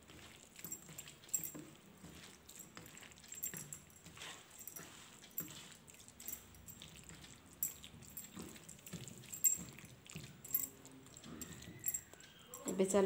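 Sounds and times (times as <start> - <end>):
wet squelching of batter mixing: 0.0 - 13.0
bangles clinking: 0.6 - 1.7, 2.5 - 13.0.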